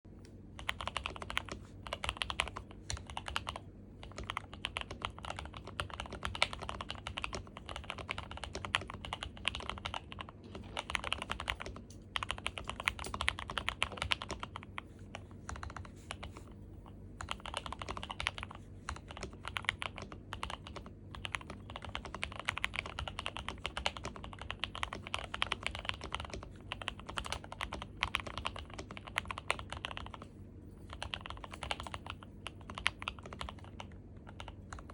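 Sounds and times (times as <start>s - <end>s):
fast typing on mechanical keyboard: 0.5s - 34.9s.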